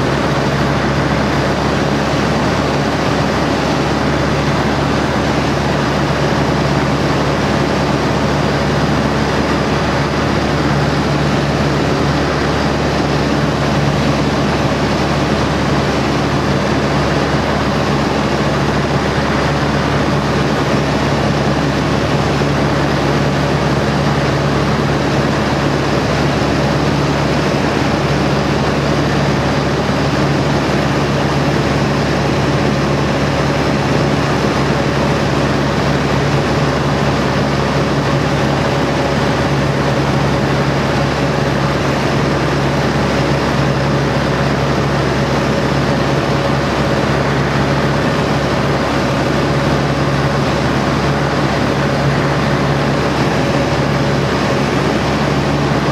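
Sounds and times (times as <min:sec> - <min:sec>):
propeller aircraft engine running: 0:00.0 - 0:55.9.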